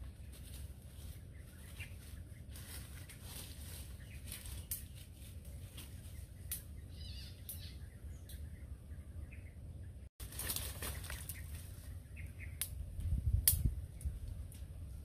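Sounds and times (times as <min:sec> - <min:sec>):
dry leaves and twigs crackling: 0:00.0 - 0:08.4, 0:10.2 - 0:15.0
low steady rumble: 0:00.0 - 0:15.0
bird chirp: 0:00.1 - 0:10.1, 0:10.8 - 0:12.9.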